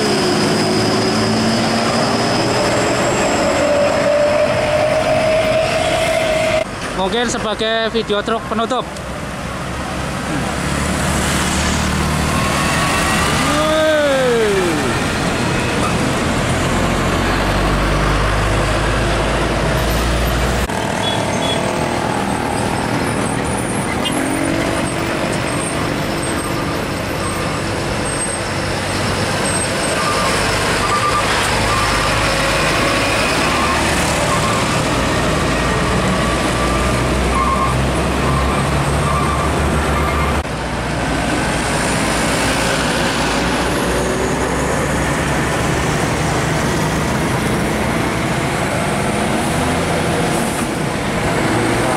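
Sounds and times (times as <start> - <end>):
diesel trucks driving past: 0.0 - 51.9
road traffic noise: 0.0 - 51.9.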